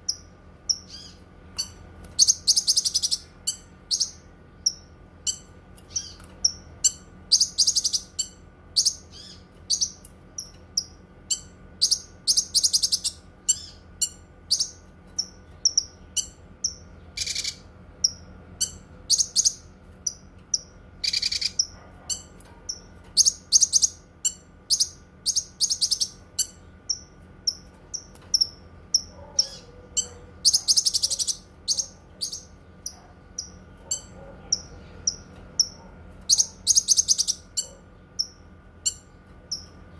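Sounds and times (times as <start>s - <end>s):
faint steady hum: 0.0s - 39.9s
songbird singing: 0.0s - 39.9s.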